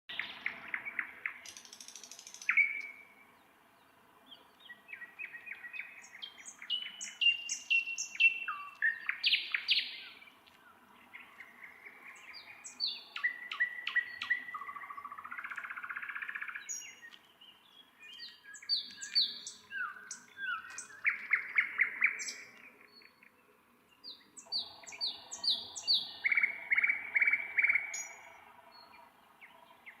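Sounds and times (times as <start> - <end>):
nightingale singing: 0.1 - 30.0.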